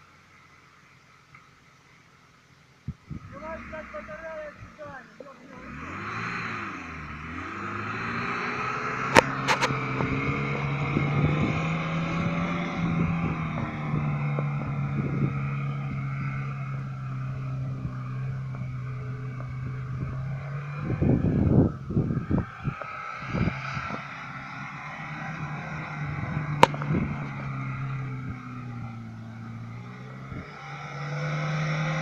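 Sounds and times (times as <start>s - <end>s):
car engine droning with whine: 0.0s - 32.0s.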